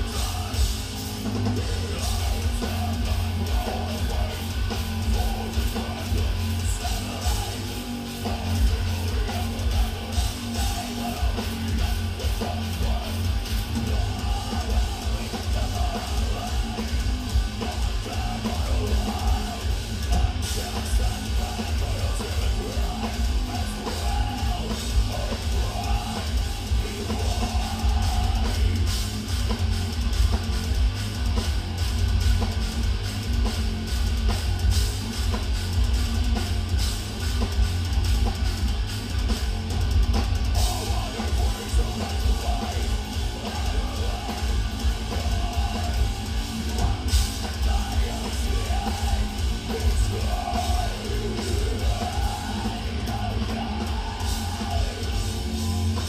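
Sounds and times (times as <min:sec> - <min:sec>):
electric guitars chugging: 0:00.0 - 0:56.0
fast double-kick drums: 0:00.0 - 0:56.0
heavy metal band playing: 0:00.0 - 0:56.0.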